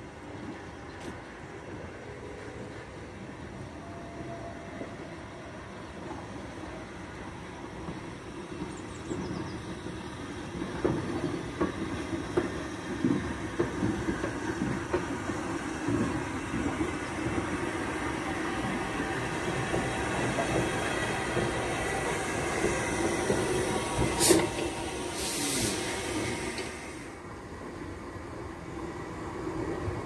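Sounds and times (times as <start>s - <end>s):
steam locomotive rumbling past: 0.0s - 30.0s.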